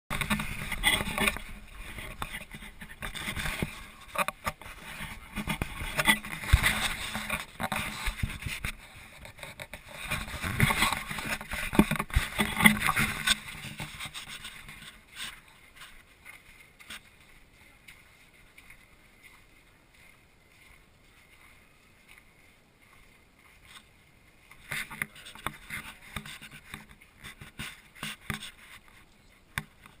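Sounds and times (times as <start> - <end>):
rustling on camera microphone: 0.1 - 30.0.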